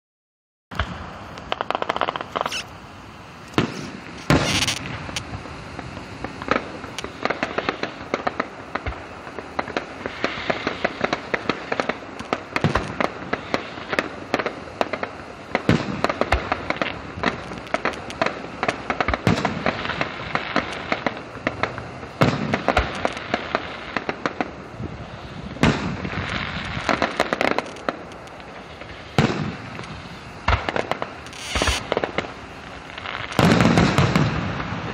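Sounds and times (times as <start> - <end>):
rapid firework crackling: 0.7 - 34.9.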